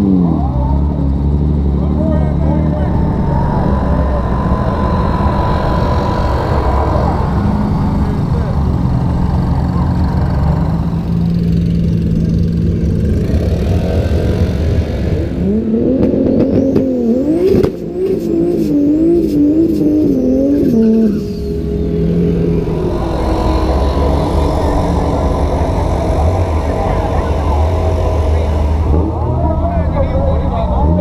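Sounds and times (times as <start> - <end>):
car engine idling and revving: 0.0 - 31.0
exhaust cracks: 0.0 - 31.0.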